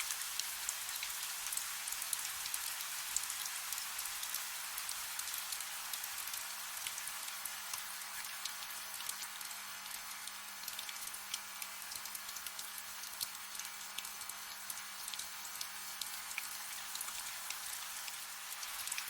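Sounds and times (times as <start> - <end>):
soft steady rain: 0.0 - 19.0.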